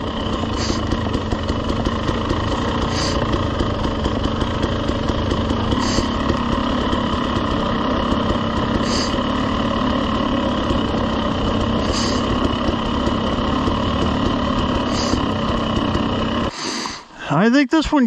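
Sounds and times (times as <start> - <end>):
dirt bike engine running: 0.0 - 16.9.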